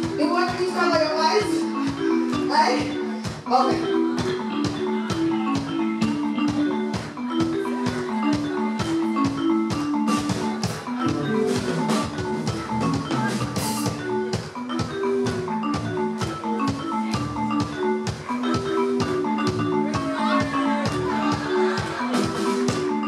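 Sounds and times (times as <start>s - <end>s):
steady drum beat: 0.0s - 23.0s
struck-sounding melody notes: 0.0s - 23.0s.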